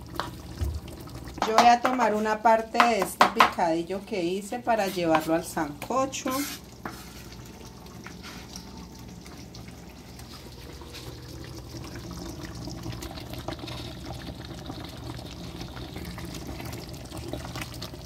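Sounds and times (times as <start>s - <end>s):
soup bubbling and sloshing: 0.0s - 1.4s, 4.8s - 18.0s.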